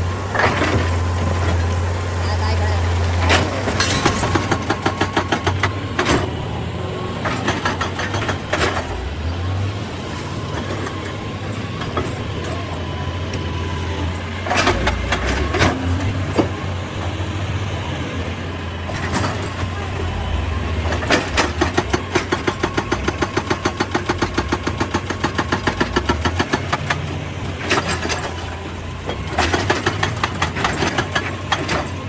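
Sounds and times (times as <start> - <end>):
excavator diesel engine running: 0.0 - 32.0
rapid clattering knocks: 3.1 - 6.5, 7.1 - 17.2, 18.8 - 20.0, 20.6 - 32.0.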